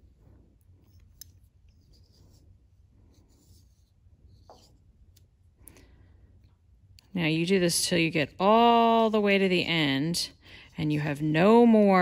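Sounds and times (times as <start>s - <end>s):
yarn rubbing on knitting needles: 0.0s - 5.1s, 7.1s - 12.0s
low room hum: 0.0s - 12.0s.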